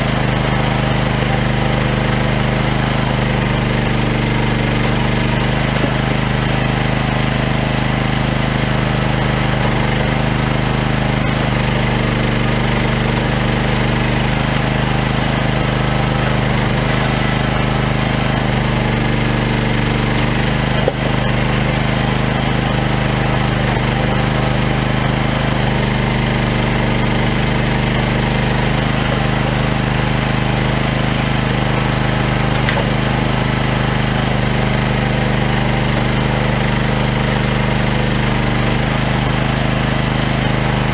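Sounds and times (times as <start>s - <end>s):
engine humming: 0.0s - 40.9s
logs being cut and split: 0.1s - 35.2s.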